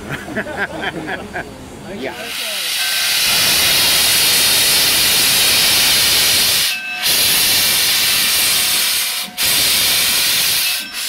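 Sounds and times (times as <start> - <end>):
locomotive steam hissing: 1.7 - 11.0.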